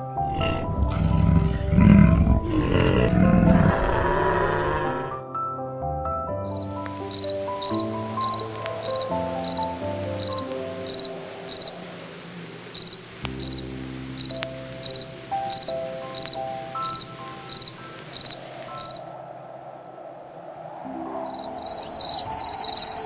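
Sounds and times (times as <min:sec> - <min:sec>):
slow soft music: 0:00.0 - 0:19.9, 0:20.6 - 0:23.0
cricket chirping: 0:00.0 - 0:23.0.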